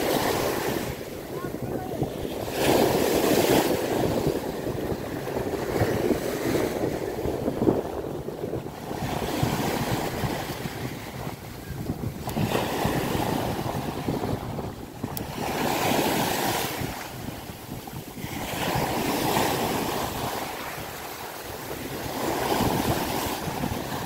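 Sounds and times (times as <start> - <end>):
sea waves breaking on shore: 0.0 - 24.0
wind on microphone: 0.0 - 24.0.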